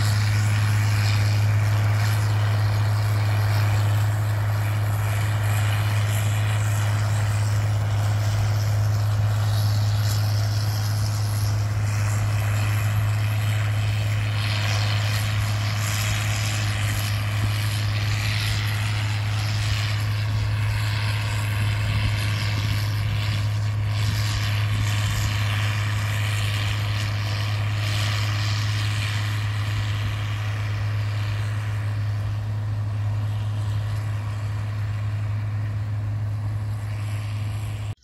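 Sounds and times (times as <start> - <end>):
tractor engine droning: 0.0 - 38.0.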